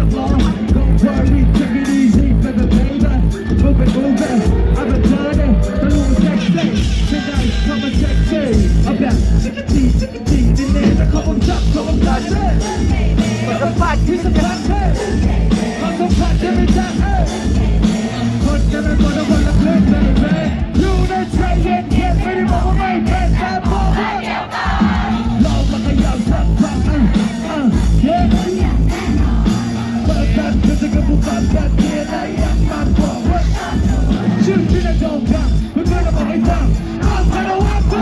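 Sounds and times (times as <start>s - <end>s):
pounding bass beat: 0.0s - 38.0s
rapped and sung vocals: 0.0s - 38.0s
crowd shouting along: 3.4s - 7.8s, 10.7s - 38.0s.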